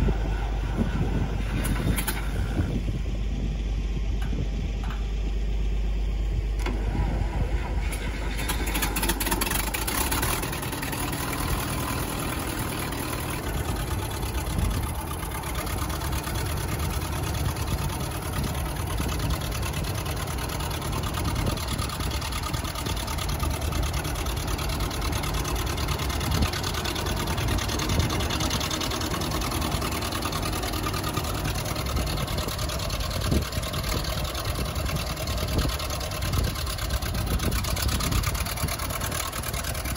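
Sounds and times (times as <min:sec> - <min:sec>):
tractor engine starting and running: 0:00.0 - 0:39.9.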